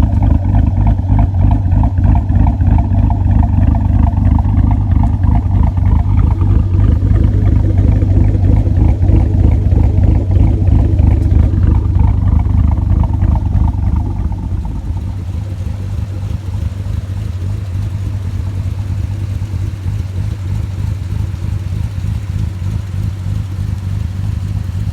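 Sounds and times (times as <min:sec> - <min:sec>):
car engine idling with choppy lope: 0:00.0 - 0:24.9.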